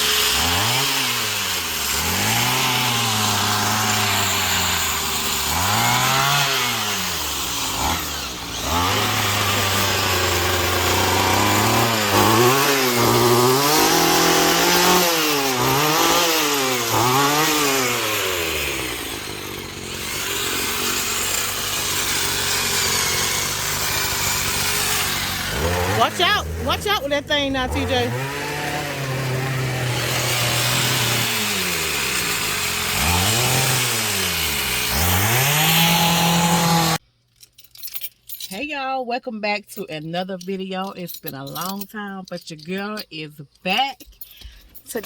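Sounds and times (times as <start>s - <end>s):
small gas engine revving: 0.0s - 37.0s.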